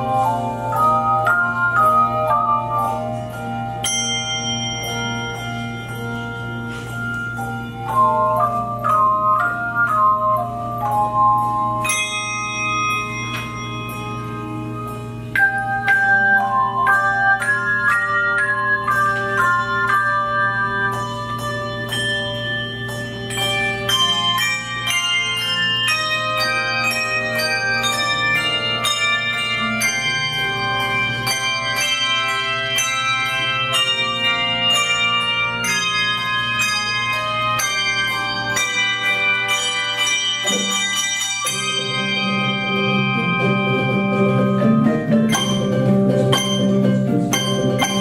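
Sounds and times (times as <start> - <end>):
handbell choir playing: 0.0 - 48.0.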